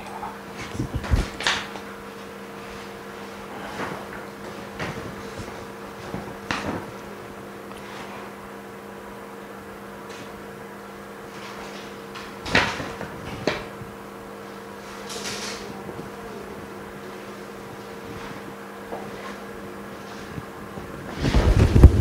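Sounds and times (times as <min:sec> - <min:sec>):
laminating machine humming: 0:00.0 - 0:22.0.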